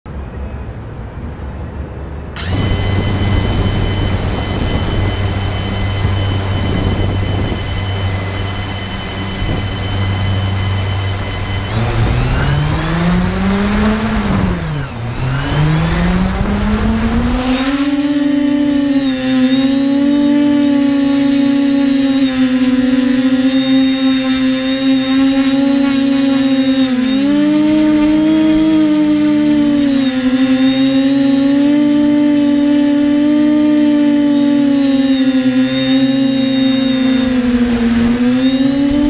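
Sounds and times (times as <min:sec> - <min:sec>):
drone motors whining: 0:02.3 - 0:39.0.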